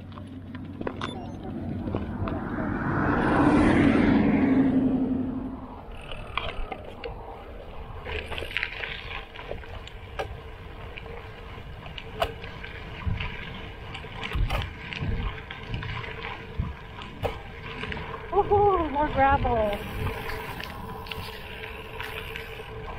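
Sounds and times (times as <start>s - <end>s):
bike tyres rolling on gravel: 0.0s - 22.9s
wind rumbling on microphone: 0.0s - 22.9s.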